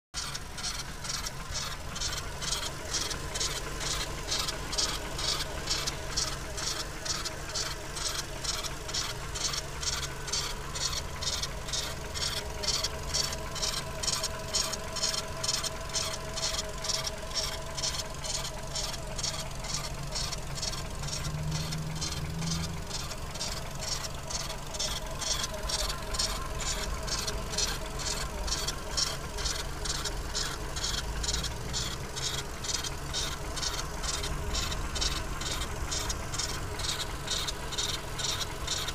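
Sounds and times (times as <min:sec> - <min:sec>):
car engine idling: 0:00.1 - 0:38.9
high squeaking chirps from engine belt: 0:00.1 - 0:38.9.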